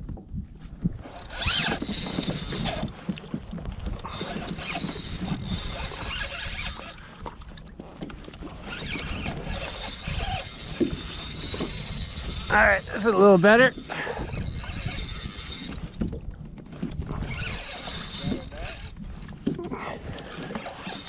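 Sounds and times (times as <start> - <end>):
water splashing against hull: 0.0 - 21.0
wind: 0.0 - 21.0.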